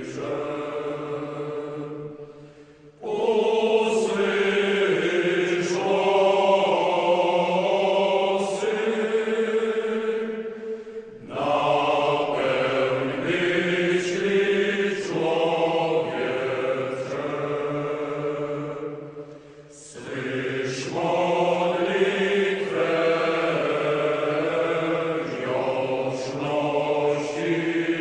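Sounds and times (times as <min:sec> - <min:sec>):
slow chant-like singing: 0:00.0 - 0:28.0.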